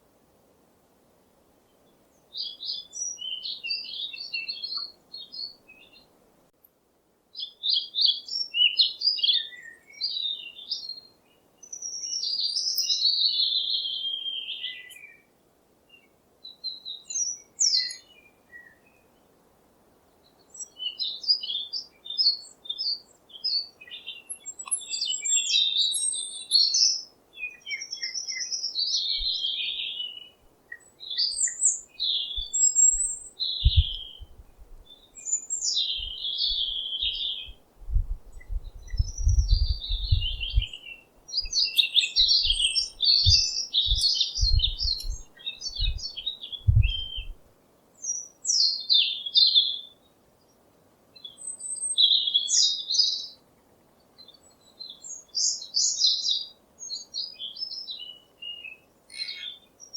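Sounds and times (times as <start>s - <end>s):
songbird chirping and singing: 2.2s - 6.1s, 7.4s - 15.3s, 15.9s - 19.3s, 20.1s - 47.4s, 48.0s - 50.2s, 51.2s - 53.4s, 54.0s - 59.9s.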